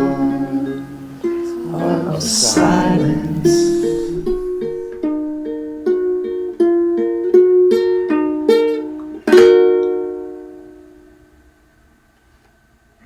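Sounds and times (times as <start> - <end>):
plucked string instrument: 0.0 - 11.5.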